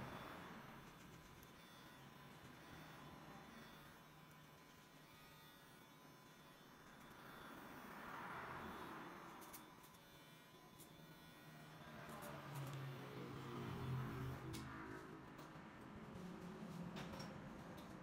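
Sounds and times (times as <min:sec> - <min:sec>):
electric hair clippers running: 0:00.0 - 0:14.8.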